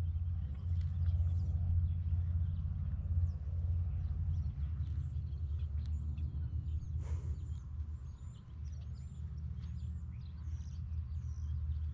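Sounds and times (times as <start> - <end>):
small birds chirping: 0.0 - 11.9
steady low hum: 0.0 - 11.9.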